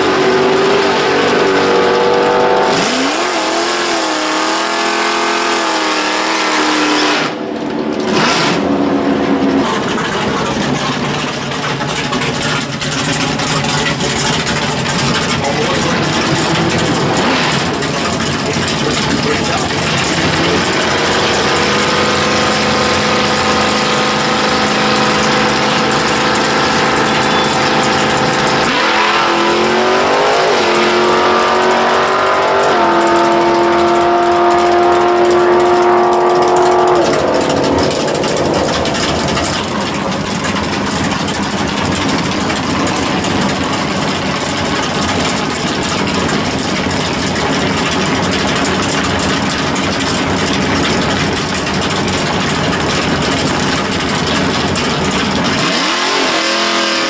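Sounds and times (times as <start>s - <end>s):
drag car engine revving: 0.0s - 57.0s.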